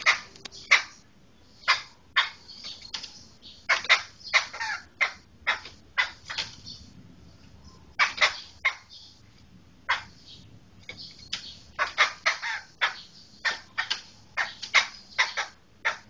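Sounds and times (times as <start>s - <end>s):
bird harsh calls: 0.0s - 6.9s, 7.6s - 9.2s, 9.8s - 16.0s.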